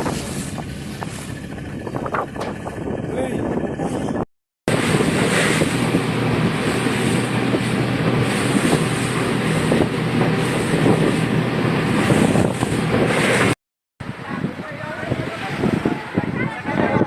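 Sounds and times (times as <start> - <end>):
boat engine running: 0.0 - 17.0
wind rushing on microphone: 0.0 - 17.0.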